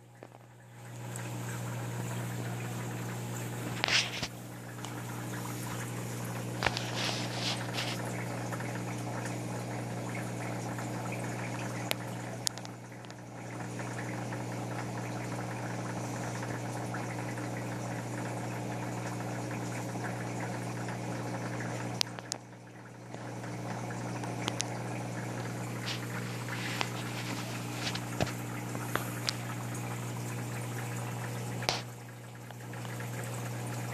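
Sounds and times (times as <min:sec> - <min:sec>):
bubbling circulating water: 0:00.0 - 0:33.9
low pump hum: 0:00.0 - 0:33.9.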